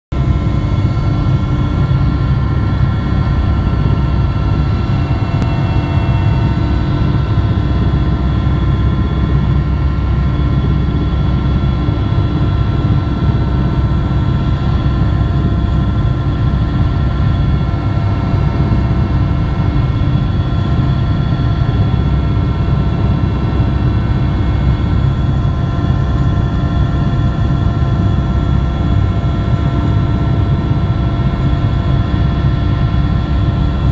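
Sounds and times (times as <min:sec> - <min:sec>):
aircraft cabin engine drone: 0:00.1 - 0:33.9.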